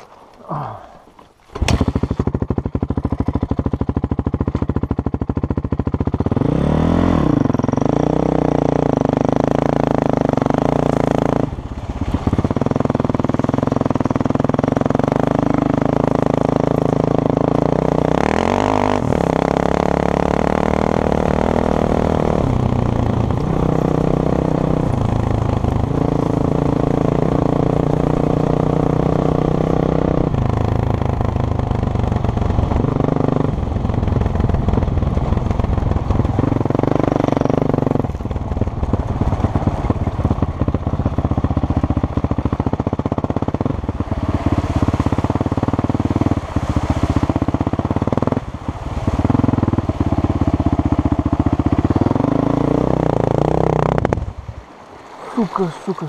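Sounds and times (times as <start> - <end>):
motorcycle engine revving: 1.5 - 54.5.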